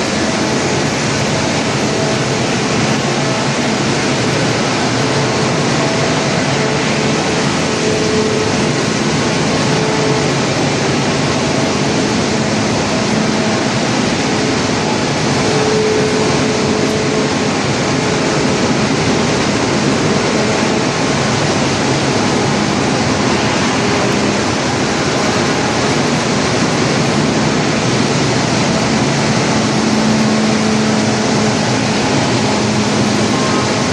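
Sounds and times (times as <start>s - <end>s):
wood crusher running: 0.0s - 33.9s.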